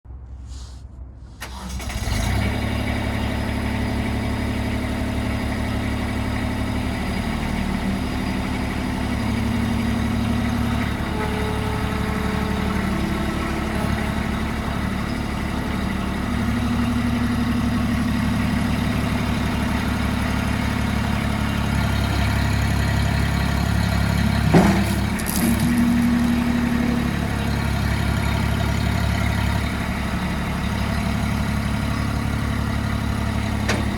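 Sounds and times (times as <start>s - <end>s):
diesel engine cranking and running: 1.4s - 33.9s.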